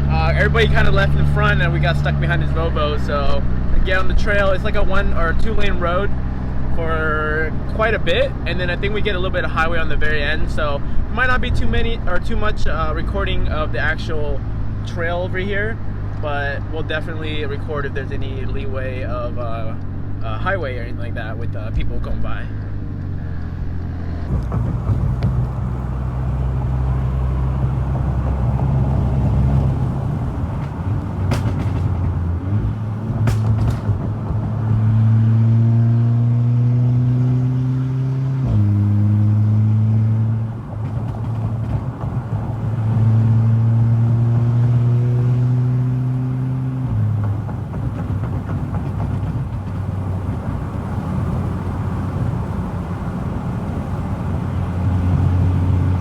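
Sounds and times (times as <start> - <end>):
car engine accelerating: 0.0 - 56.0
road rumble: 0.0 - 56.0.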